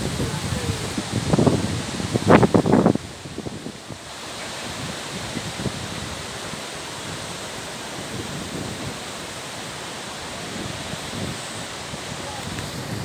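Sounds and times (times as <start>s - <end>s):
hiss of water: 0.0s - 13.0s.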